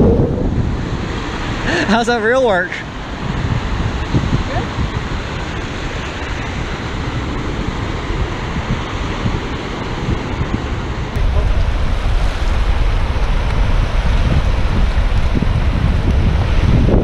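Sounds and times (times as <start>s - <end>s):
surf washing on beach: 0.0s - 17.0s
wind blowing across microphone: 0.0s - 17.0s.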